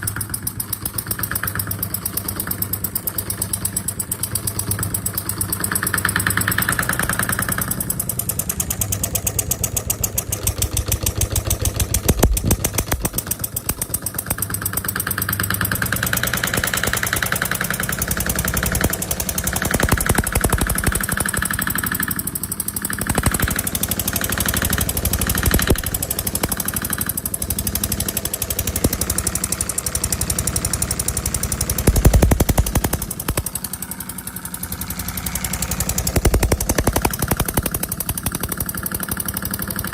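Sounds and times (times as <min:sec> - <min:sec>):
model diesel engine knocking: 0:00.0 - 0:39.9.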